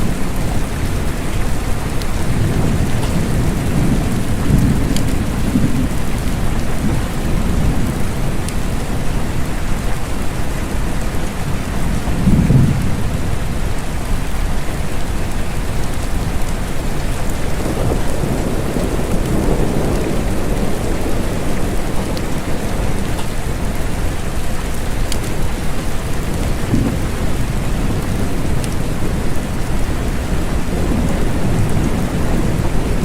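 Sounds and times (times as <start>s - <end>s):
low rolling thunder: 0.0s - 10.0s, 10.9s - 33.0s
rain: 0.0s - 33.0s.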